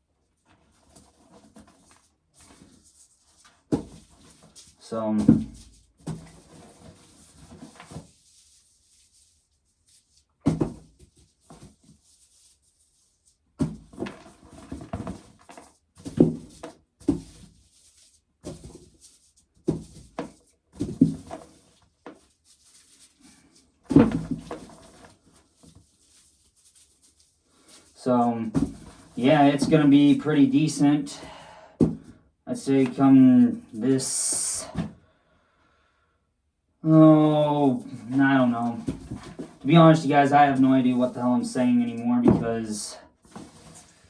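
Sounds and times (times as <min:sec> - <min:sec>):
handling knocks and rubbing: 0:00.5 - 0:08.5, 0:13.6 - 0:35.0, 0:37.0 - 0:44.0.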